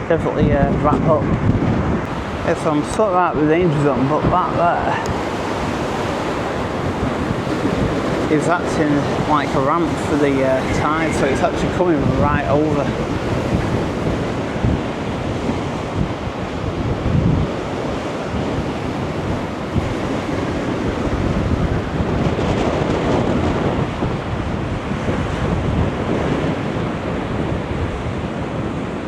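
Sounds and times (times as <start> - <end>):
waves surging and washing: 0.0 - 29.0
wind buffeting microphone: 0.0 - 29.0.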